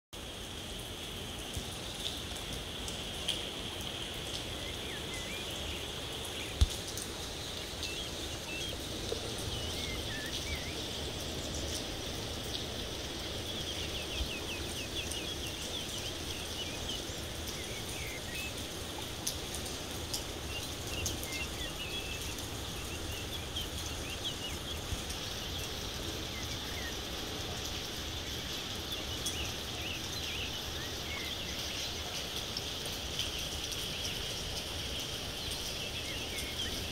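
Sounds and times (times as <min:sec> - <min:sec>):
light rain hissing: 0:00.2 - 0:36.9
small birds chirping: 0:04.0 - 0:36.9.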